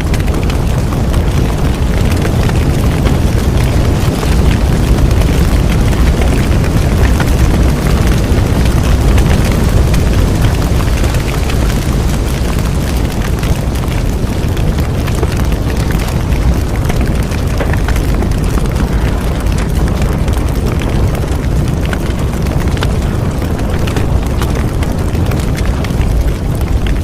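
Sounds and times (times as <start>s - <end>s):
bonfire rumble: 0.0s - 27.0s
burning wood crackling: 0.0s - 27.0s.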